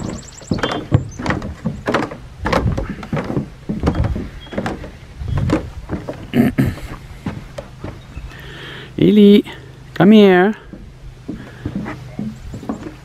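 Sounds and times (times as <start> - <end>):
knocks and thuds in aluminum boat: 0.0 - 8.3, 10.6 - 13.0.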